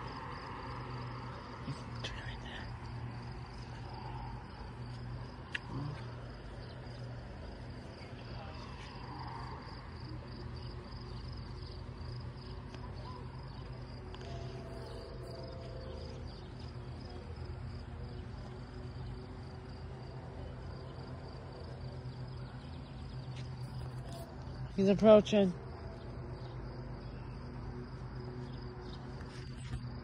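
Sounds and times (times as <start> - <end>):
insects chirping: 0.0 - 30.0
low steady hum: 0.0 - 30.0.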